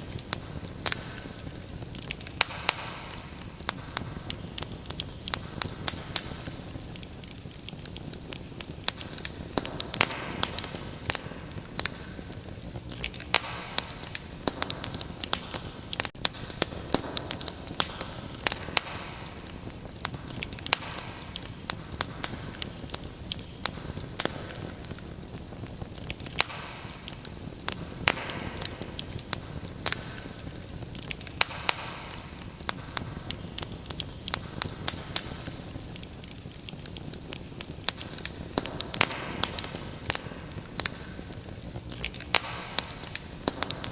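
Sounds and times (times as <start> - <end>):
fire crackling in a fireplace: 0.0 - 43.9.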